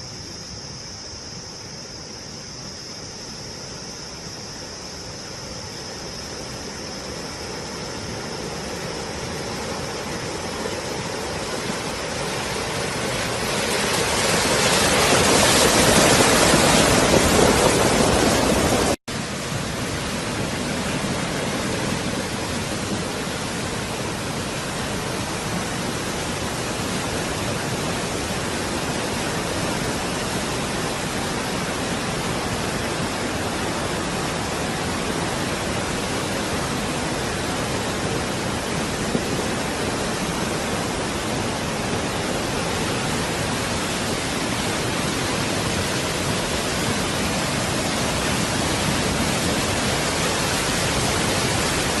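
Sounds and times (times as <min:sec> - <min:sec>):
rushing floodwater: 0:00.0 - 0:52.0.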